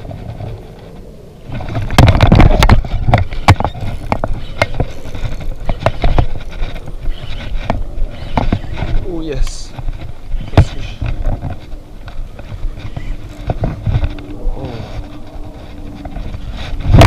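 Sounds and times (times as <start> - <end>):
microphone rubbing and rumbling: 0.0 - 17.0.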